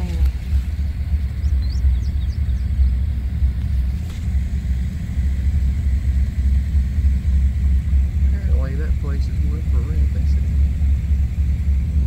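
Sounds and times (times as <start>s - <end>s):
car driving heard from inside: 0.0s - 12.0s.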